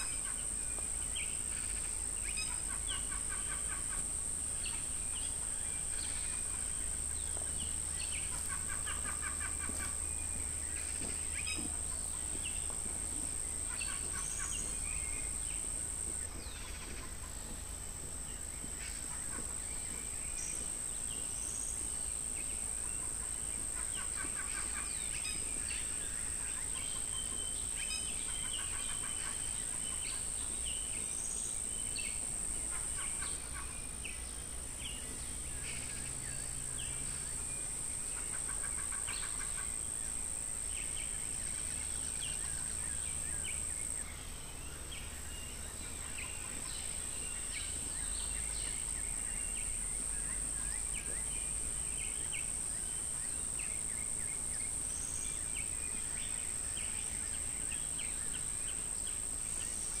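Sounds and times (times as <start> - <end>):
high-pitched insect chorus: 0.0 - 60.0.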